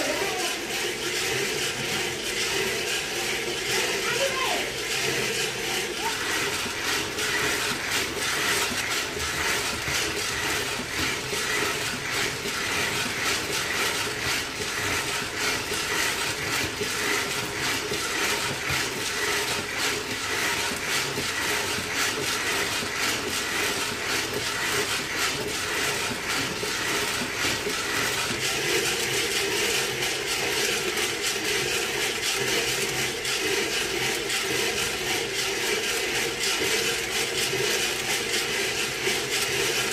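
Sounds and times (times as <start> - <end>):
coffee beans rattling in drum: 0.0 - 39.9.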